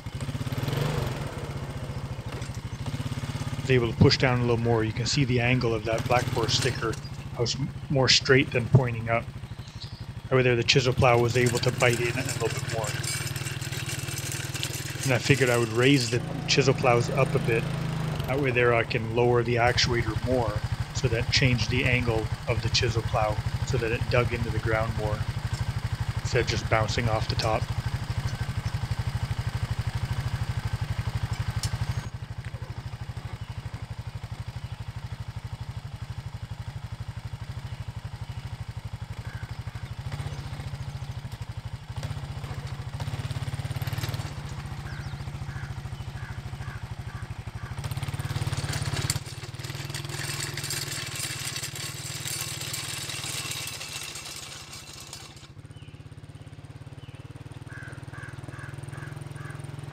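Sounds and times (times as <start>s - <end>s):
plow tines scraping dirt: 0.0s - 35.3s, 38.6s - 55.7s
quad engine running: 0.0s - 59.9s.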